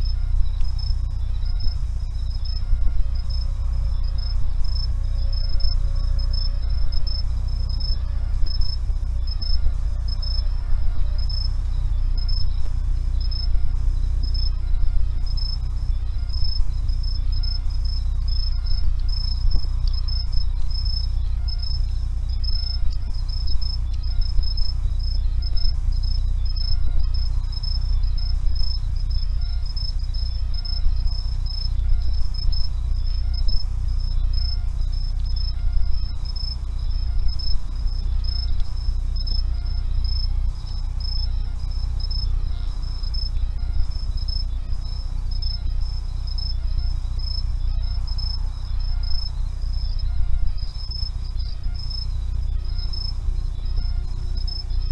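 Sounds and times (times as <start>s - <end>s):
insect trilling: 0.0s - 54.9s
low rumble: 0.0s - 54.9s.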